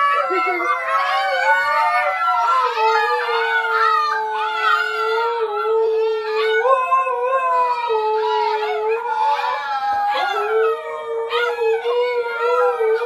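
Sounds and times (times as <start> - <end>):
dog long low howl: 0.0 - 13.0
puppies howling high: 0.0 - 13.0.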